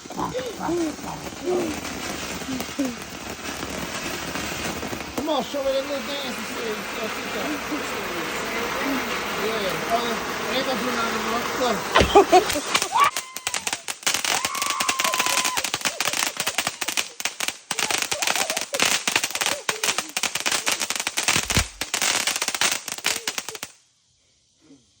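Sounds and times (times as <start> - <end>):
firecrackers popping: 0.0 - 23.8.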